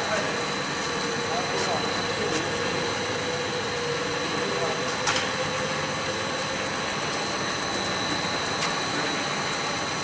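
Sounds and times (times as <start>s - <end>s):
machinery with high-pitched whine: 0.0s - 10.0s.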